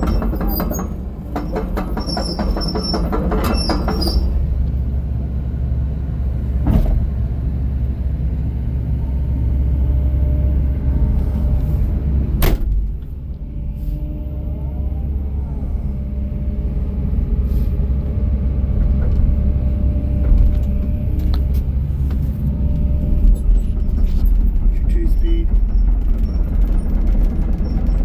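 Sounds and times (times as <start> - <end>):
excavator diesel engine rumbling: 0.0 - 28.0.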